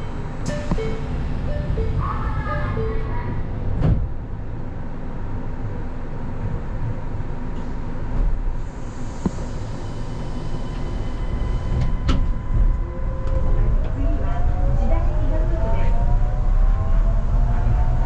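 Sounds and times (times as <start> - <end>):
faint train whine: 0.0 - 18.0
train low rumble: 0.0 - 18.0.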